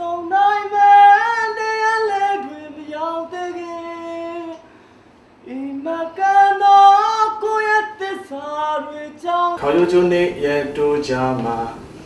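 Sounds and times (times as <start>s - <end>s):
man singing unaccompanied: 0.0s - 4.6s, 5.4s - 12.0s.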